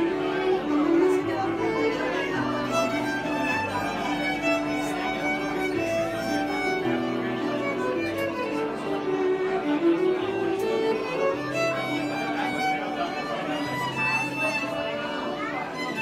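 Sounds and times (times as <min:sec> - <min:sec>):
electric violin melody: 0:00.0 - 0:16.0.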